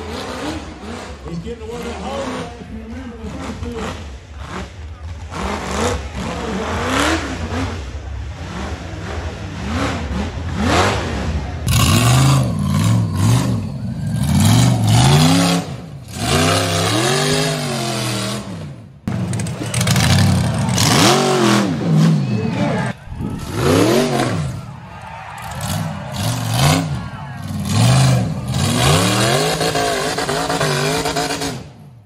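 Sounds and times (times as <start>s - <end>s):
buggy engines revving hard: 0.0s - 32.0s.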